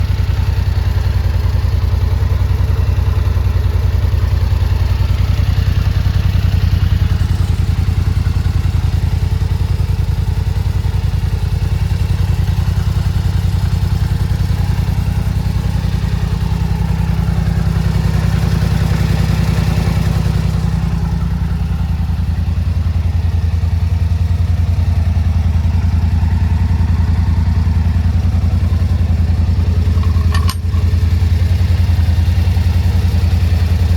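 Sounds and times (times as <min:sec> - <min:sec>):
engine running at low speed: 0:00.0 - 0:33.9.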